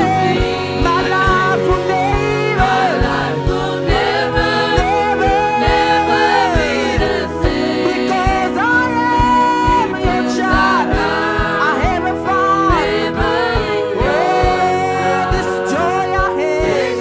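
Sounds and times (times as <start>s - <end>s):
choir singing gospel music: 0.0s - 17.0s
steady drum beat: 0.0s - 17.0s.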